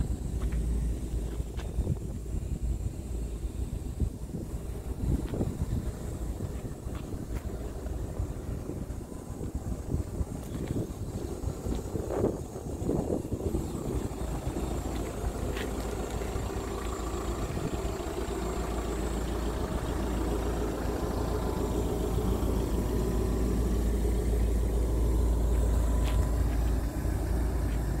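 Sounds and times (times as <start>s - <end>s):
excavator diesel engine idling: 0.0s - 28.0s.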